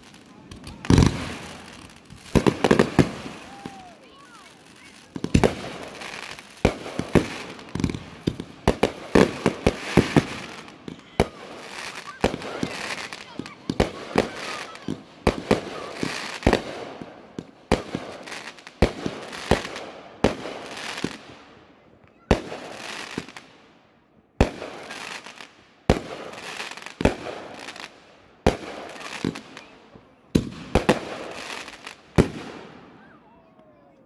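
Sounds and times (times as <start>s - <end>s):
fireworks bangs: 0.0s - 21.4s, 24.4s - 29.7s, 30.3s - 33.2s.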